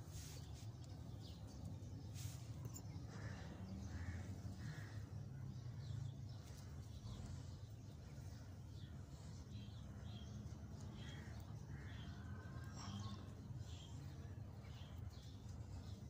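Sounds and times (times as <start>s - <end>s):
birds calling faintly: 0.0s - 16.0s
low background rumble: 0.0s - 16.0s.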